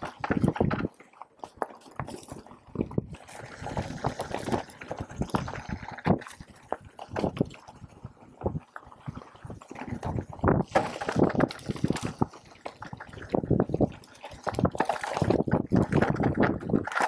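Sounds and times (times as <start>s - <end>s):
mountain bike rattling over rough ground: 0.0s - 17.0s.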